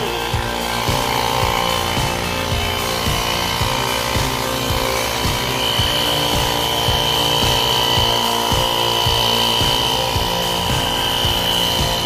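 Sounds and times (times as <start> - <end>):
tyre compressor whining: 0.0 - 12.0.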